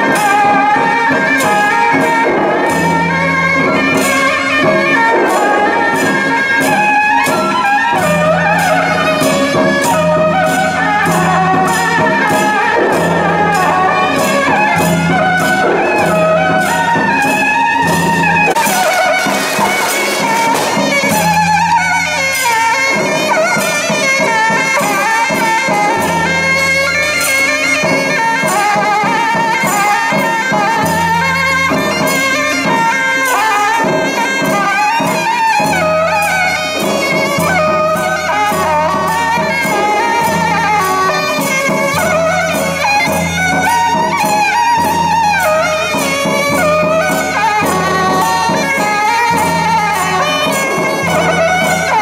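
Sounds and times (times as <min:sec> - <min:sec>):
clatter of cymbals and percussion: 0:00.0 - 0:52.0
shrill reed wind instruments: 0:00.0 - 0:52.0.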